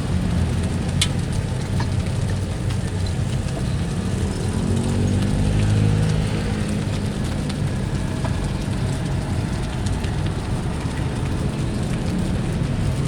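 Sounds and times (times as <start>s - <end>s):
passing motor vehicle hum: 0.0s - 13.0s
rice sizzling in a wok: 0.0s - 13.0s.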